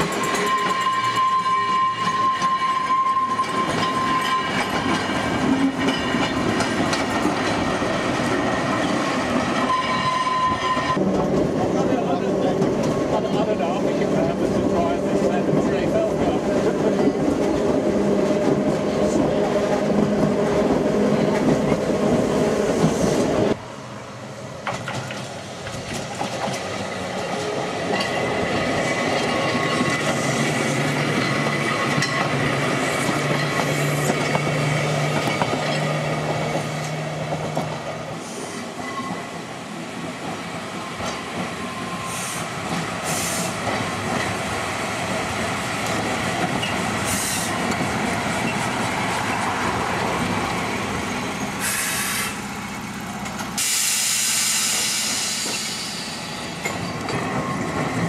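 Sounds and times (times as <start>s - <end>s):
tramcar passing: 0.0s - 58.0s.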